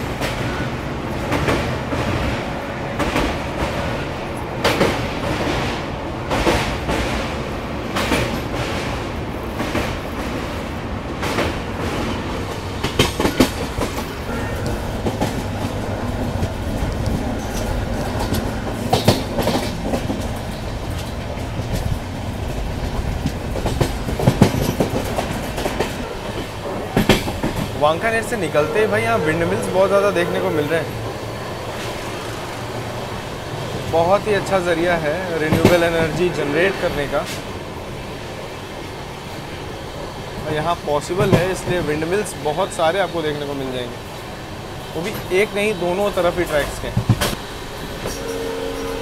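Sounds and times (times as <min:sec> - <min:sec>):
train coach rumble: 0:00.0 - 0:49.0
wheels clacking over rail joints: 0:00.0 - 0:49.0.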